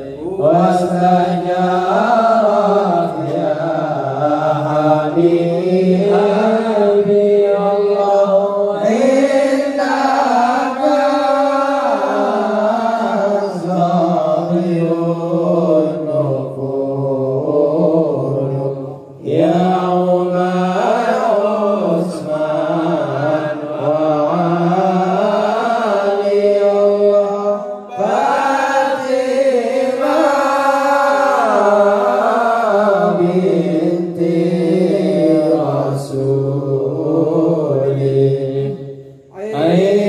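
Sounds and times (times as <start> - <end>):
men chanting together: 0.0 - 40.0.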